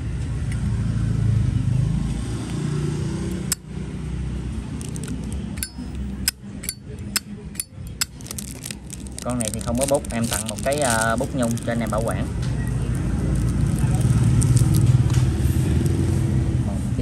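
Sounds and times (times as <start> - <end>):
passing vehicle engine rumble: 0.0 - 17.0.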